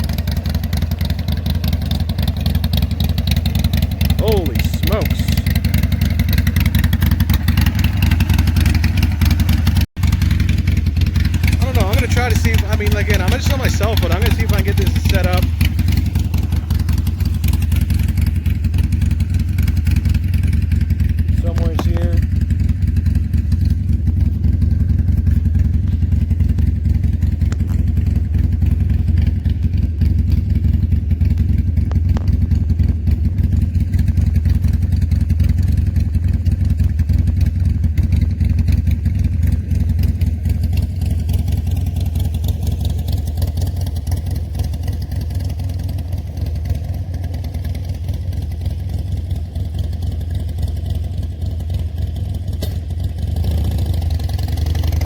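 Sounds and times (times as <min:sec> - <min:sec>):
motorcycle exhaust rumble: 0:00.0 - 0:55.0.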